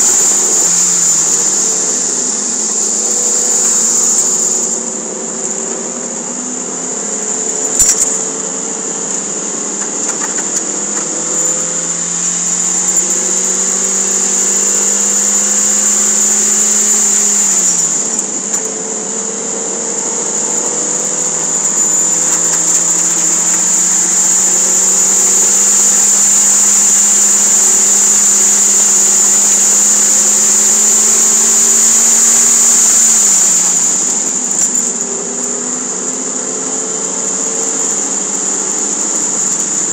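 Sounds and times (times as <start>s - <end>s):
high-pitched whine: 0.0s - 39.9s.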